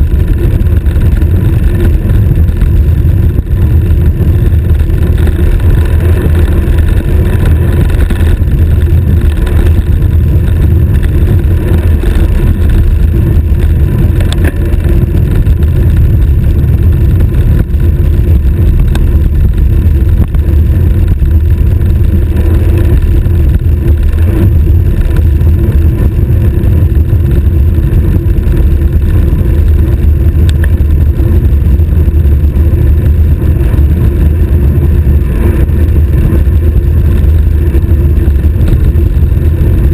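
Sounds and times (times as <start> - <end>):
tyres rumbling on asphalt: 0.0 - 39.9
wind buffeting microphone: 0.0 - 39.9.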